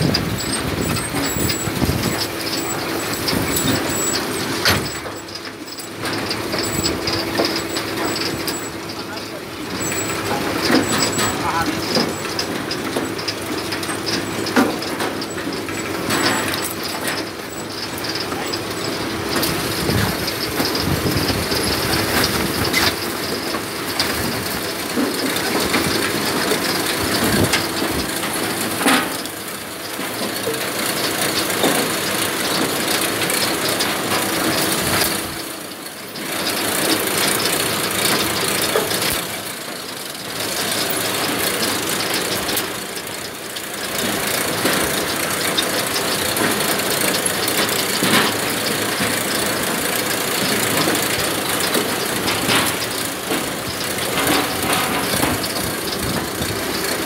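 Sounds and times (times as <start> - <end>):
harvester clattering and rattling: 0.0 - 57.0.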